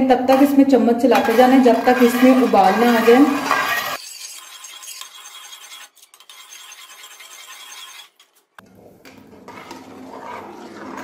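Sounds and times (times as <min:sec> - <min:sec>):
ladle scraping metal pot: 0:00.3 - 0:11.0.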